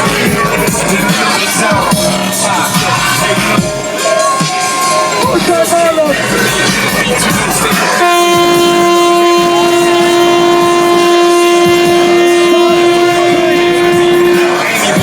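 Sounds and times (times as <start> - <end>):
horn long blast: 0.0 - 15.0.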